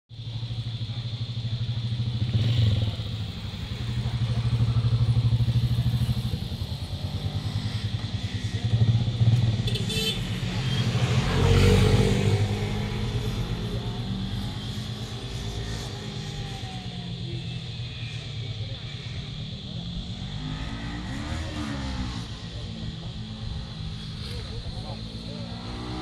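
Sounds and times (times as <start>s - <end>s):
motorcycle engine running: 0.1s - 26.0s.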